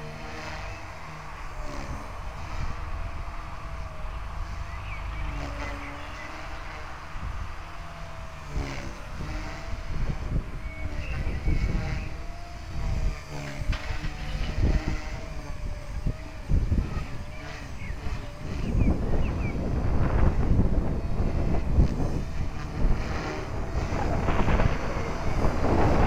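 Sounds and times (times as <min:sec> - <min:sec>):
rc helicopter rotor whine: 0:00.0 - 0:26.0
wind buffeting microphone: 0:00.0 - 0:26.0.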